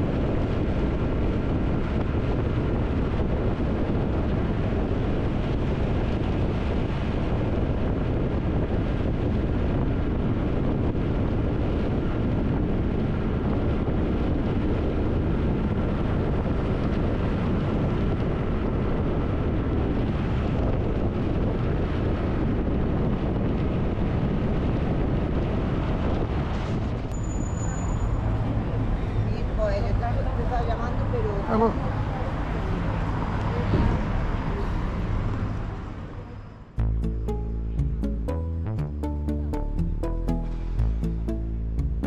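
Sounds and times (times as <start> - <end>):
wind rushing on microphone: 0.0 - 36.1.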